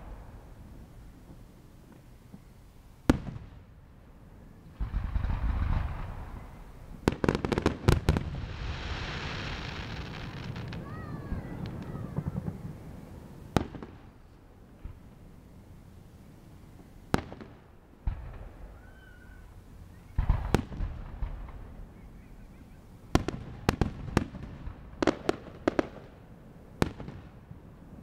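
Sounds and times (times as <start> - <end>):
fireworks bangs: 0.0 - 3.8, 4.7 - 14.2, 17.1 - 26.2, 26.8 - 28.0.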